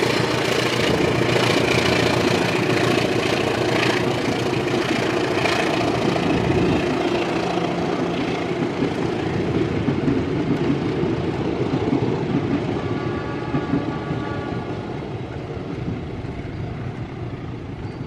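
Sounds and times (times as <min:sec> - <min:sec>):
train passing: 0:00.0 - 0:18.0.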